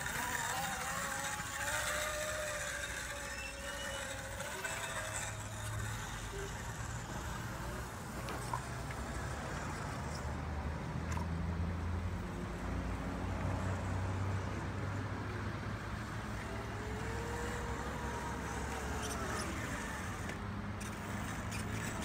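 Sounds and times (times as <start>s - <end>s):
electric mini motorbike motor whining: 0.0s - 11.2s, 11.9s - 22.0s.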